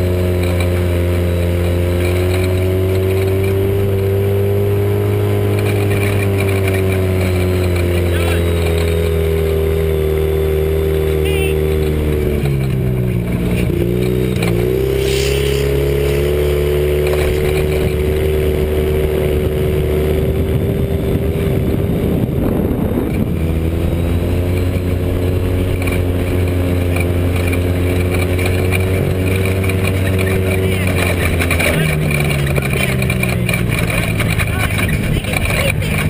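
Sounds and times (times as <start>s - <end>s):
dune buggy engine revving: 0.0s - 36.0s.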